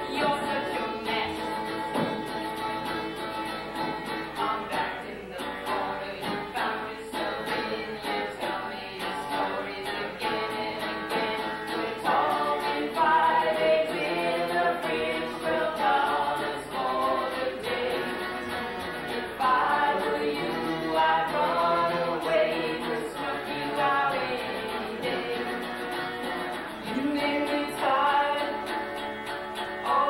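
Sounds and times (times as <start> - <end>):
people singing: 0.0 - 30.0.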